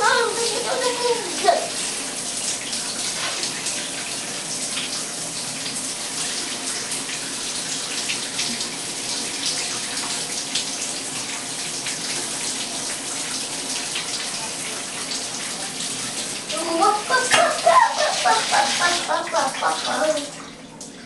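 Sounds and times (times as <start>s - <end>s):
shower spray into bathtub: 0.0s - 20.4s.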